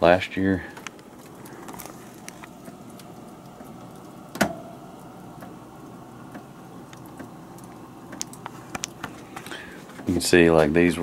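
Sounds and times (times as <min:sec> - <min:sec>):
freezer humming: 0:00.0 - 0:11.0.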